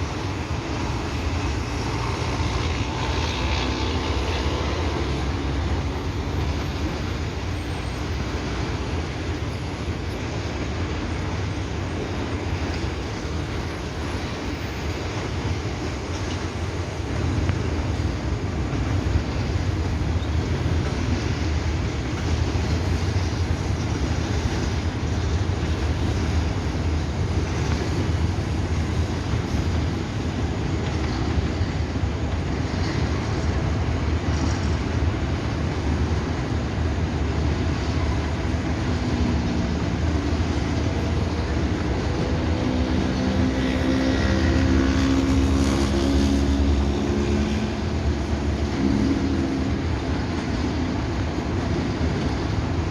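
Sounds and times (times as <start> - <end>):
diesel locomotive engines droning: 0.0 - 52.9
rolling train wagons: 0.0 - 52.9.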